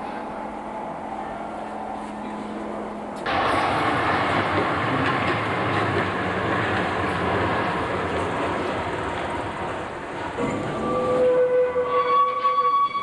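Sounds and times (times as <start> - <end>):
tram wheels rolling on rails: 0.0 - 13.0.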